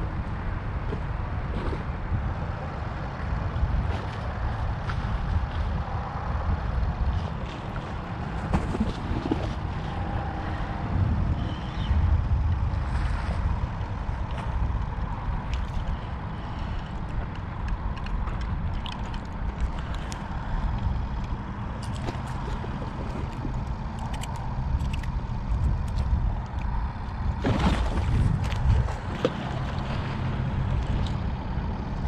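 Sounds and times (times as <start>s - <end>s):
wind rumbling on microphone: 0.0s - 32.0s.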